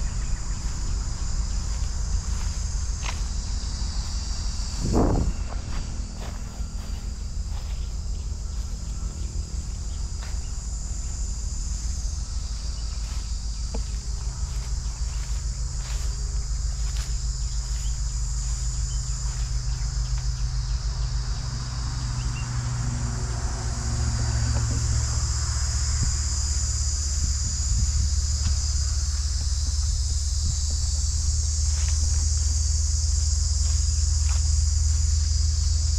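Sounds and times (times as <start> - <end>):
high-pitched insect buzz: 0.0 - 35.9
small motorcycle engine running: 0.0 - 35.9.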